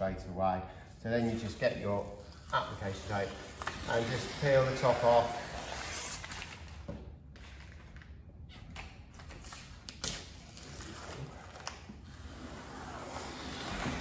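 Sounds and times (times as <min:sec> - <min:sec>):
paper tape rustling: 0:01.2 - 0:14.0.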